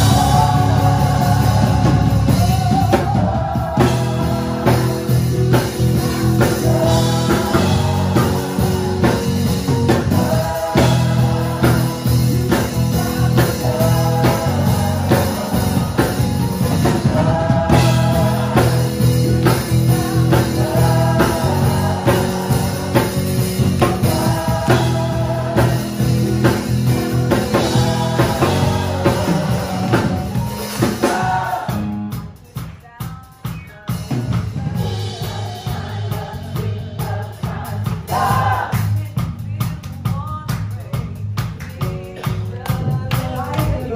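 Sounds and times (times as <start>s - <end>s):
song with singing and band: 0.0s - 43.9s.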